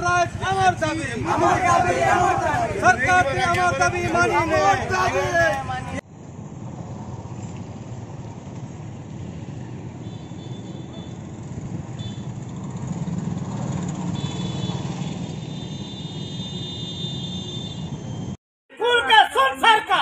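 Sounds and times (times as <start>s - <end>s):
road traffic rumble: 0.0s - 18.4s.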